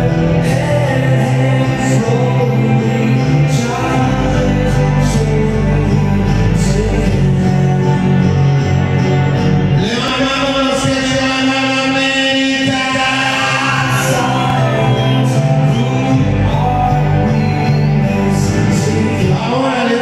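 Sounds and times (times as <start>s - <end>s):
loud music with singing: 0.0s - 20.0s
steady bass line: 0.0s - 20.0s.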